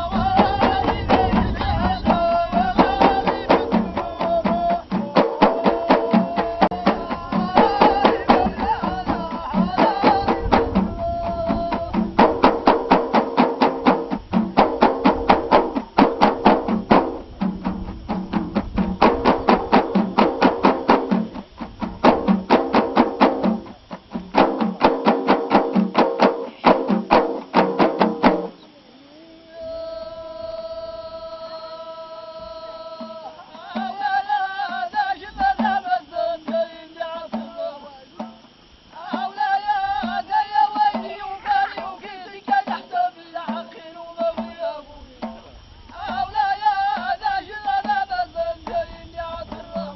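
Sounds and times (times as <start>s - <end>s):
frame drums beaten fast: 0.0s - 28.6s, 33.0s - 49.9s
group call-and-response singing: 0.0s - 49.9s.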